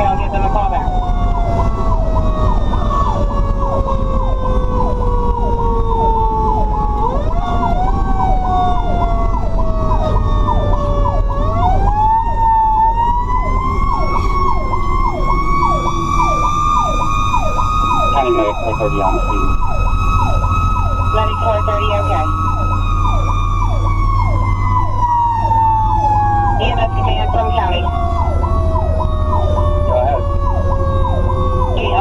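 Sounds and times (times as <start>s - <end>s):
electronic siren yelping: 0.0s - 32.0s
truck engine and road rumble: 0.0s - 32.0s.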